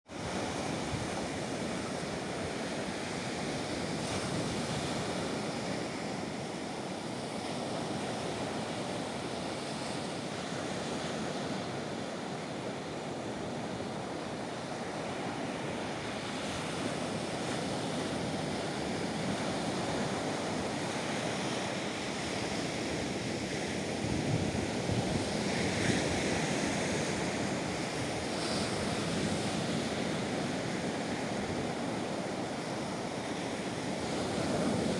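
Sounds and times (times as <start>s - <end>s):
waves breaking ashore: 0.1s - 34.9s
wind noise on microphone: 0.1s - 34.9s.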